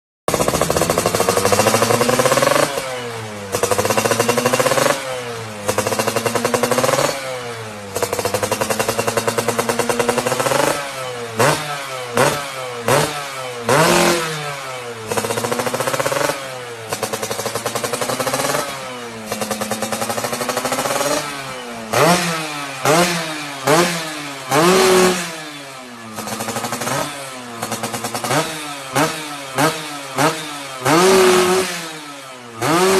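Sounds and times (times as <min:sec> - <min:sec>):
motorcycle engine revving: 0:00.3 - 0:32.9.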